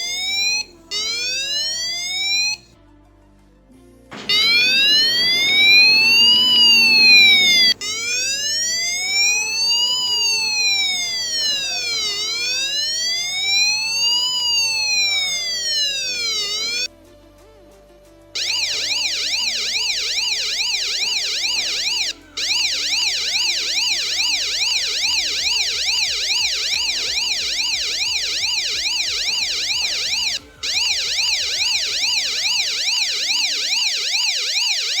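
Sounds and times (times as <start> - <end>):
electronic siren sweeping up and down: 0.0 - 2.7, 4.2 - 16.9, 18.4 - 35.0.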